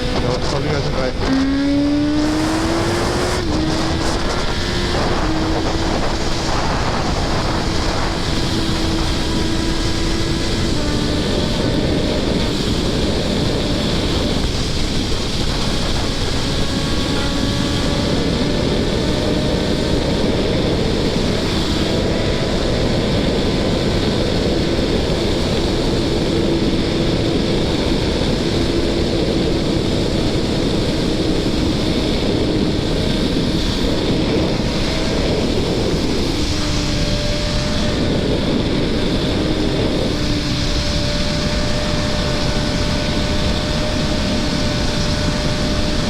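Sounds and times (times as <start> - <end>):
motorcycle engine running: 0.0 - 46.0
wind rushing over microphone: 0.0 - 46.0.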